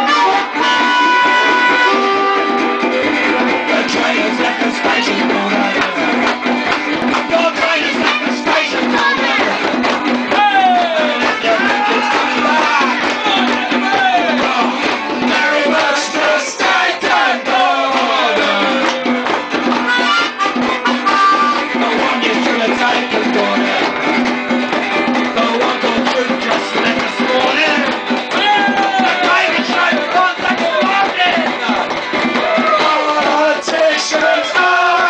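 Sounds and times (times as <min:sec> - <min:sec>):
man singing: 0:00.0 - 0:19.4, 0:20.8 - 0:24.2, 0:25.1 - 0:35.0
hand drum: 0:00.0 - 0:35.0
slide guitar: 0:00.0 - 0:35.0.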